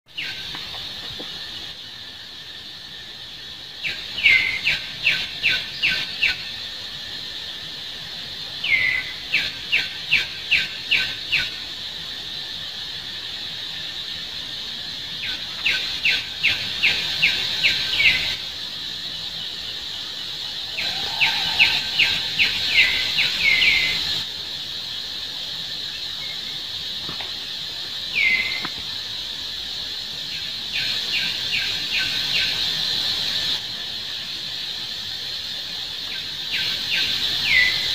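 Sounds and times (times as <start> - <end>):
high insect drone: 0.1 - 37.9.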